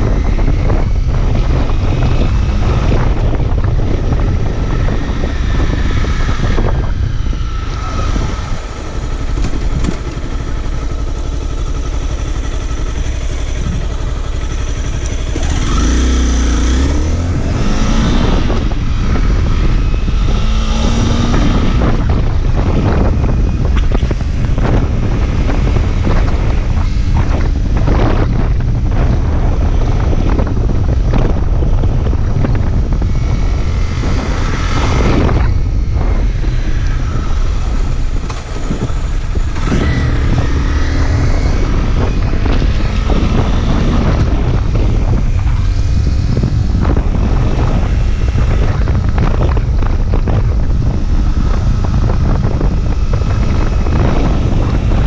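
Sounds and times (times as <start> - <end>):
motorcycle engine rumble: 0.0 - 55.0
wind buffeting microphone: 0.0 - 55.0.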